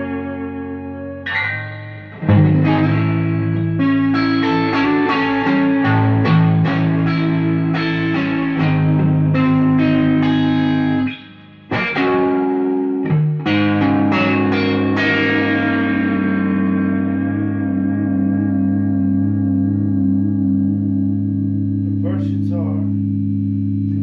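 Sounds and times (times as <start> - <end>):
clean electric guitar chords: 0.0 - 24.0.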